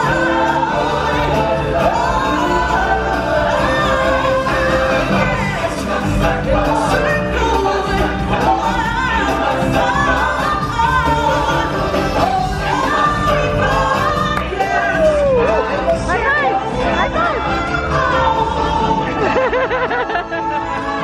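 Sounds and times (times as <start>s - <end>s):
band playing: 0.0s - 21.0s
choir singing: 0.0s - 21.0s.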